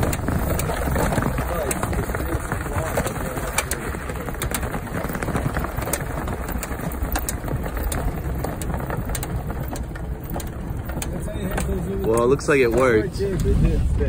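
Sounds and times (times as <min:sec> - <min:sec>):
tire chains clinking: 0:00.0 - 0:13.8
tyres rumbling on packed snow: 0:00.0 - 0:14.0.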